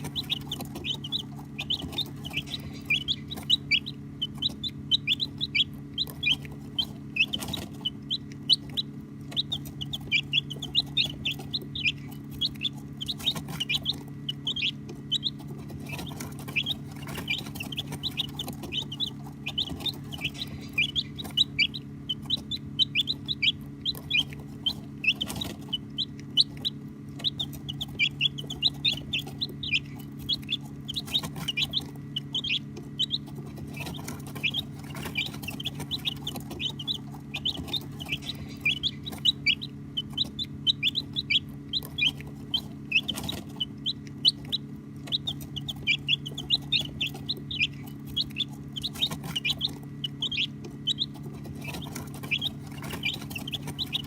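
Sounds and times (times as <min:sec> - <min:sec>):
baby chicks peeping: 0:00.0 - 0:54.0
low steady hum: 0:00.0 - 0:54.0.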